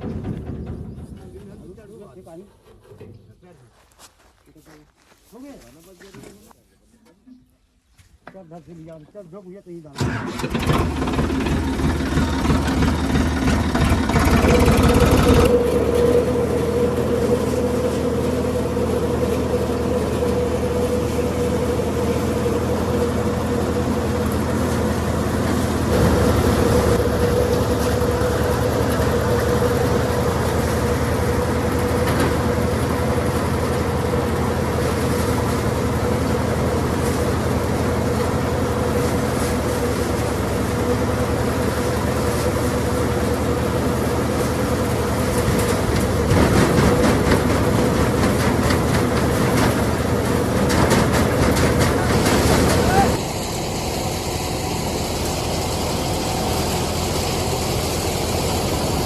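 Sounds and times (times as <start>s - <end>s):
tractor engine hum: 0.0s - 3.4s, 9.9s - 59.0s.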